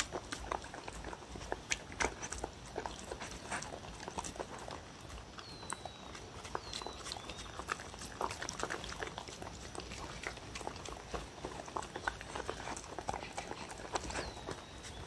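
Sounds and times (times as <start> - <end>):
dog lapping and chewing food: 0.0 - 15.0.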